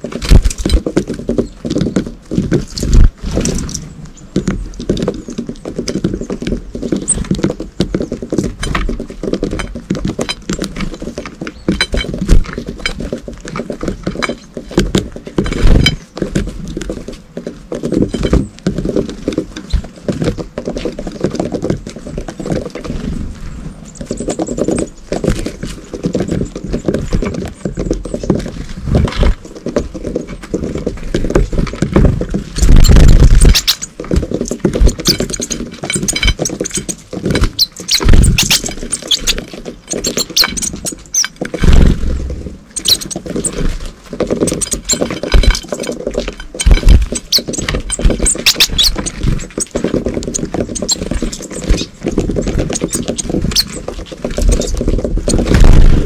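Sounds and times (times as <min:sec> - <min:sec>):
birds pecking and tapping: 0:00.0 - 0:56.0
wings fluttering: 0:00.0 - 0:56.0.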